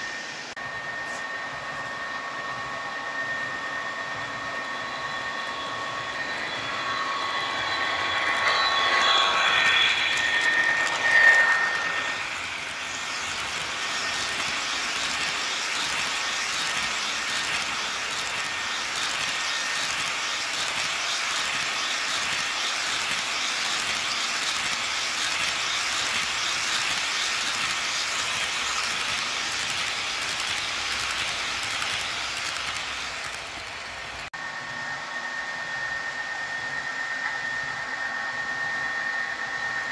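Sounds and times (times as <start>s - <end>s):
model train wheels on rails: 0.0s - 34.8s.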